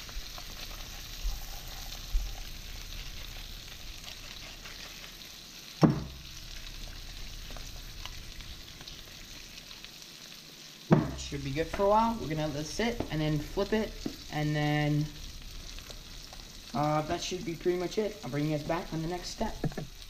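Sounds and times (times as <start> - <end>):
fish sizzling in a pan: 0.0 - 20.0.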